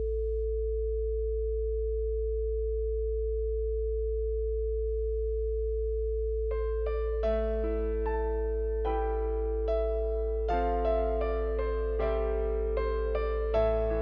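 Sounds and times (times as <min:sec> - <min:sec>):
deep sine tone: 0:00.0 - 0:14.0.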